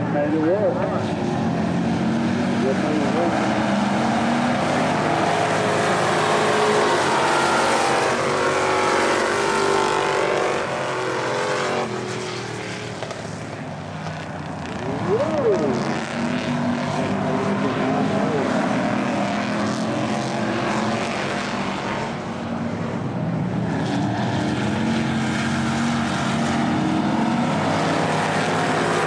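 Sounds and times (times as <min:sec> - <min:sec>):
stock car engines racing: 0:00.0 - 0:29.0.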